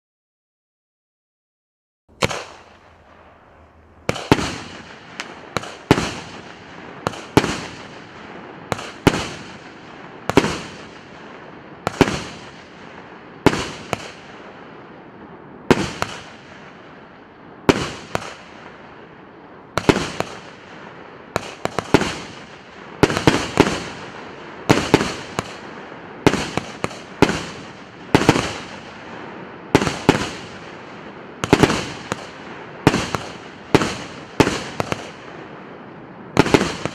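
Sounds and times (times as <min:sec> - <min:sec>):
firework bangs with crackle: 0:02.2 - 0:15.0, 0:15.6 - 0:36.9.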